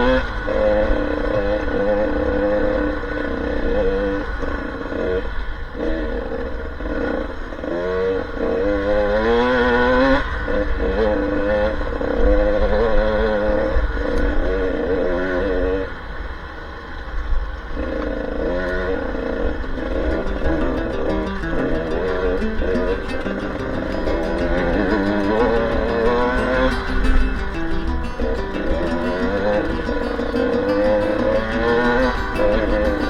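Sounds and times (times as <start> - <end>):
motorcycle engines revving: 0.0 - 17.0, 17.6 - 33.0.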